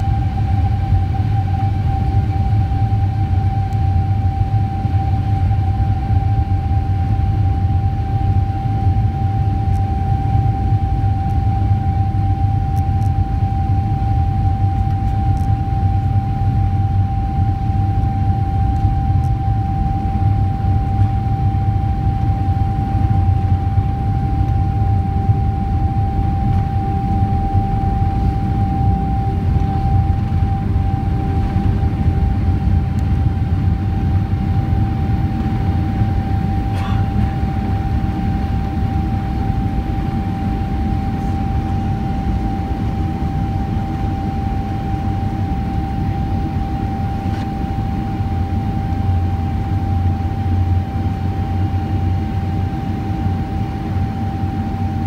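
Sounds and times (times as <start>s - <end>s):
jet engine rumble: 0.0s - 55.0s
jet engine whine: 0.0s - 55.0s.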